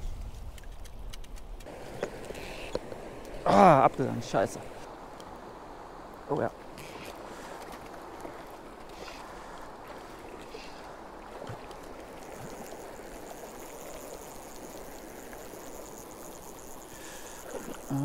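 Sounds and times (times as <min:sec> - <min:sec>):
stream water flowing: 0:00.4 - 0:18.0.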